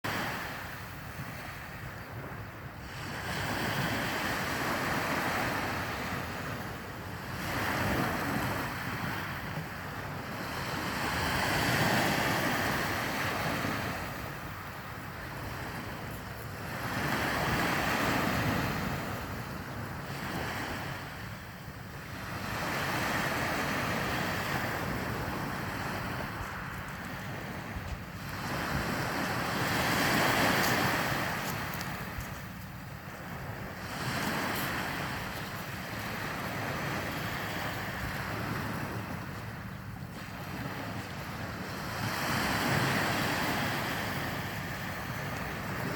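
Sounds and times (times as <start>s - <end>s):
sea waves breaking on shore: 0.0s - 45.9s
wind rumbling on microphone: 0.0s - 45.9s.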